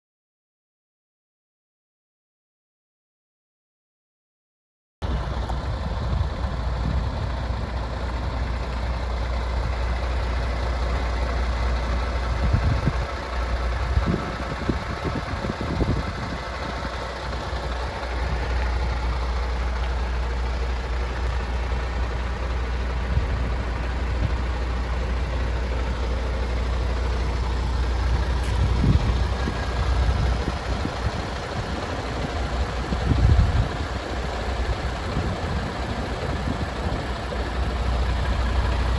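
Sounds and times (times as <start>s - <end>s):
diesel engine idling: 5.0s - 38.9s.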